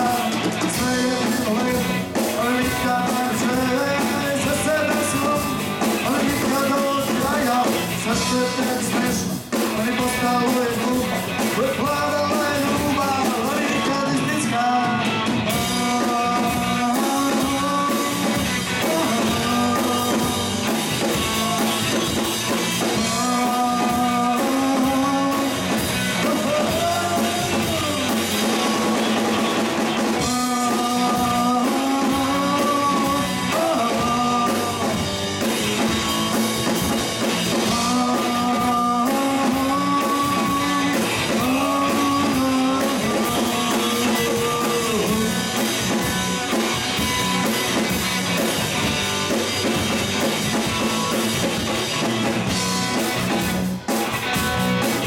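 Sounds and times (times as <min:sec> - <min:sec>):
drum kit: 0:00.0 - 0:55.0
electric guitars: 0:00.0 - 0:55.0
sliding melodic lead line: 0:00.0 - 0:55.0.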